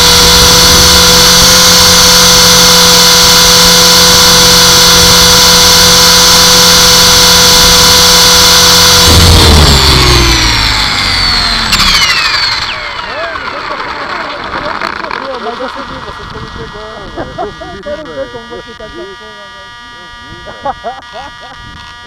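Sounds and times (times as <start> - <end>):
rc helicopter high whine: 0.0 - 22.0.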